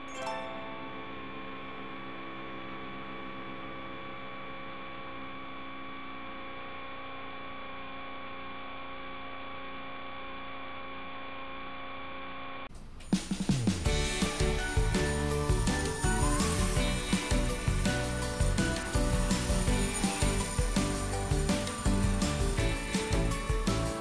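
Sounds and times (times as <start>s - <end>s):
steady electrical hum: 0.5s - 24.0s.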